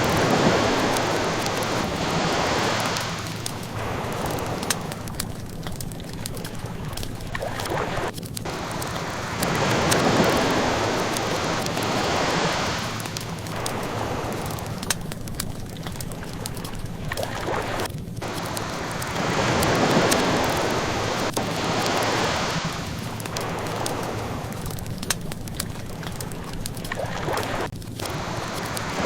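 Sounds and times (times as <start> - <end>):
ocean waves washing in: 0.0 - 29.0
wood fire crackling: 0.0 - 29.0.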